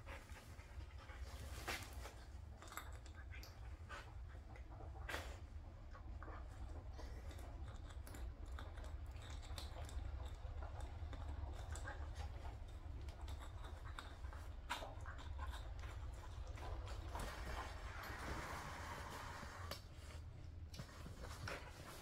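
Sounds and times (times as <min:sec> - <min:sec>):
low steady hum: 0:00.0 - 0:22.0
puppy teeth gnawing toy: 0:01.2 - 0:19.9.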